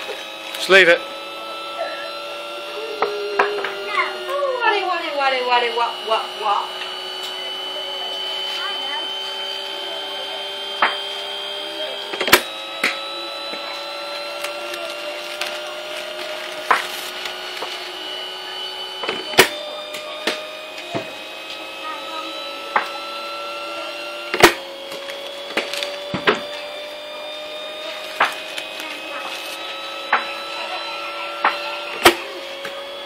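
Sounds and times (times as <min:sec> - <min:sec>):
bowling machine whining: 0:00.0 - 0:33.0.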